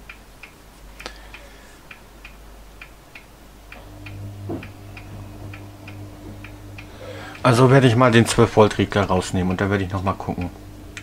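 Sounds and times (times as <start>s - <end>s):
low steady hum: 0.0s - 11.0s
steady ticking: 0.0s - 11.0s.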